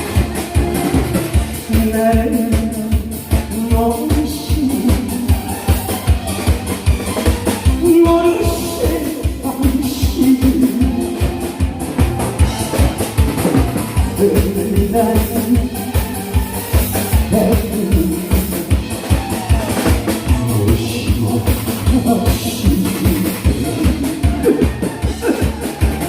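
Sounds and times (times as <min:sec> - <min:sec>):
instrumental backing track: 0:00.0 - 0:26.0.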